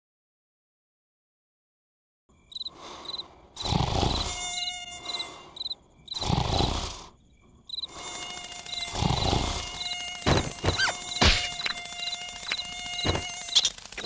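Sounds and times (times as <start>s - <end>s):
high insect-like chirps: 2.3s - 14.0s.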